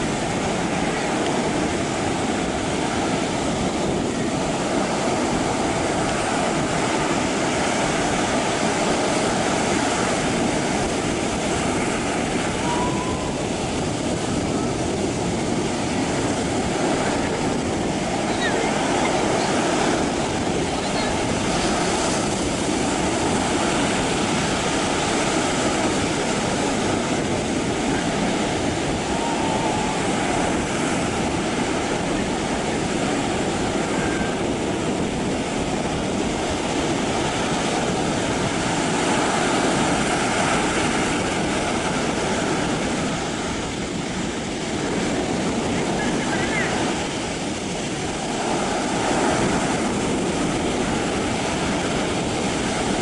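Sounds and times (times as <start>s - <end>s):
sea surf breaking on shore: 0.0s - 53.0s.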